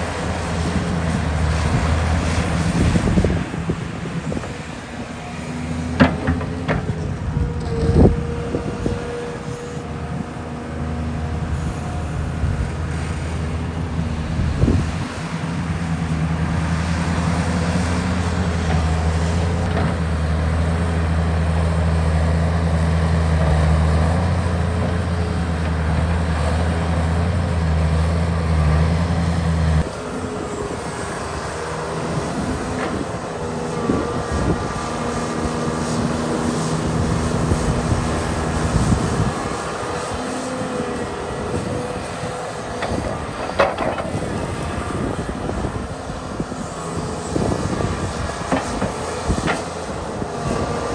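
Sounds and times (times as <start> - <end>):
excavator diesel engine: 0.0 - 50.9.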